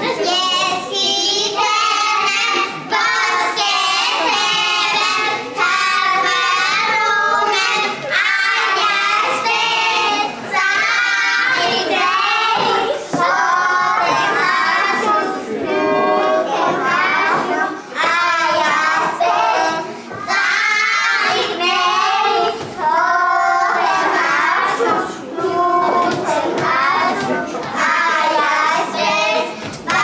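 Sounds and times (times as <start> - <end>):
young children singing: 0.0 - 30.0.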